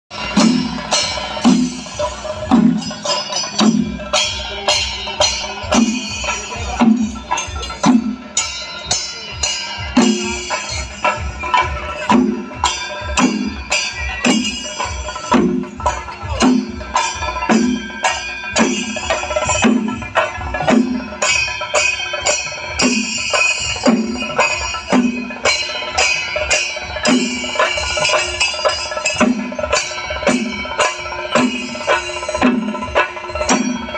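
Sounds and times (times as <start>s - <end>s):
deep steady drum beat: 0.1s - 33.9s
drum ensemble rapid stick strokes: 0.1s - 33.9s.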